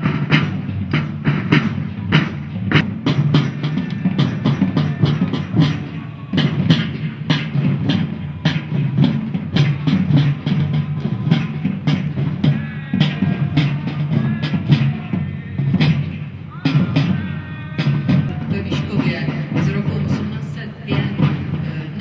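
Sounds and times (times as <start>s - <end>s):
busy drum beat: 0.0s - 22.0s.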